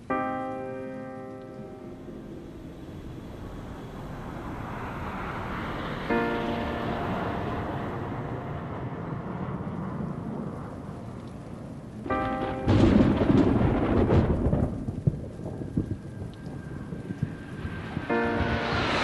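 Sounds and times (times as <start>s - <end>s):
falling rain: 0.0s - 19.0s
steady rushing noise: 0.7s - 19.0s
thunderclap rumbling: 3.3s - 19.0s.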